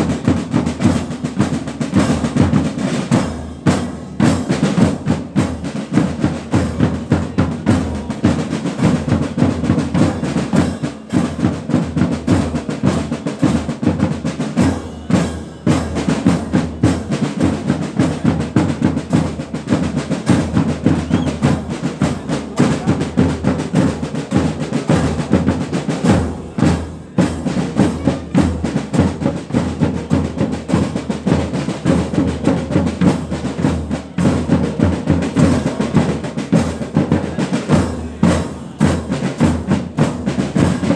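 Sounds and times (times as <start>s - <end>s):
marching band playing: 0.0s - 40.9s
snare drum rolls: 0.0s - 40.9s.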